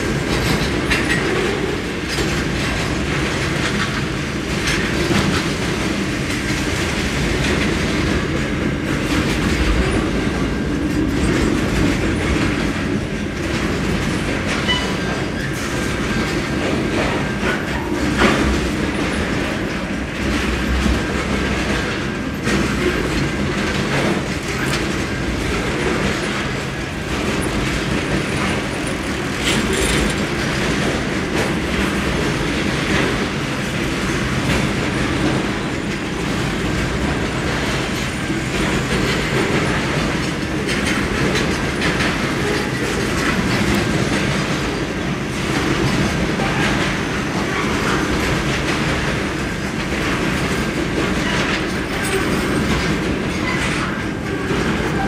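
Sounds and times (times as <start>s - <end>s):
freight train rumbling past: 0.0s - 55.0s
wheels clickety-clack over track: 0.0s - 55.0s.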